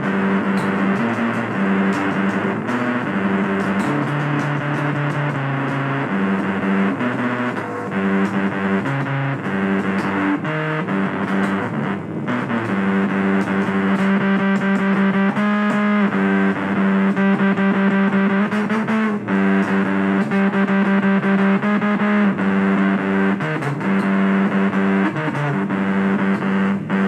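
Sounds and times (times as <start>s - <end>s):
distorted electric guitar music: 0.0s - 27.0s.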